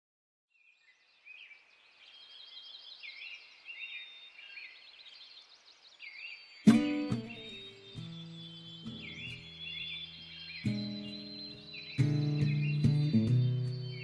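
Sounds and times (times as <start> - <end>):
songbirds chirping and trilling: 0.5 - 14.0.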